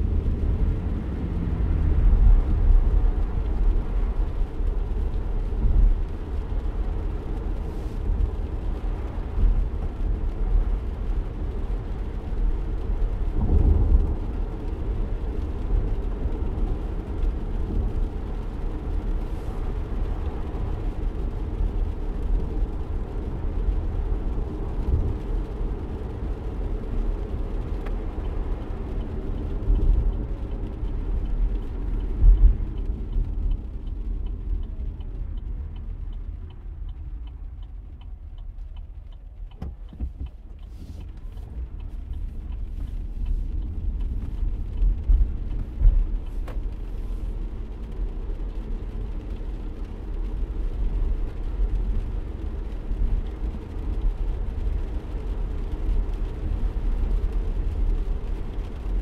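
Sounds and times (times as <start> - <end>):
car road rumble in rain: 0.0 - 59.0.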